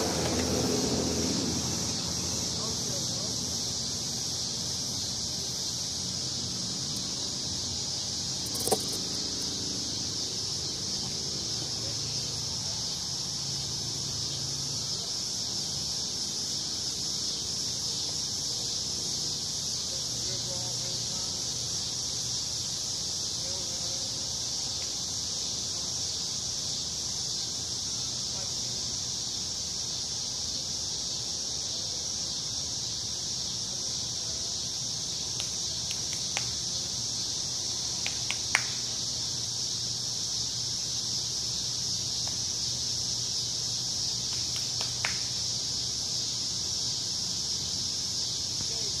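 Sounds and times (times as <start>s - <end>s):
high insect chorus droning: 0.0s - 49.0s.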